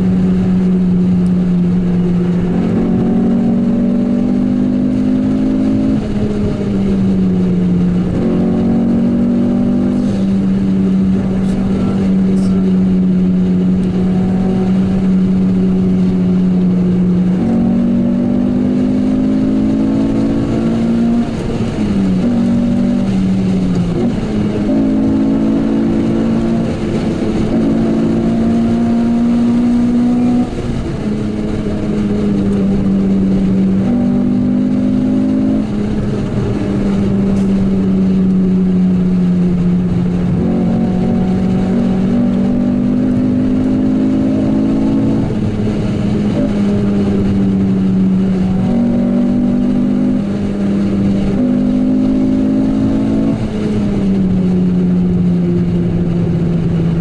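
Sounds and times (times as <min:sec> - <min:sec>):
car engine pulling hard: 0:00.0 - 0:57.0.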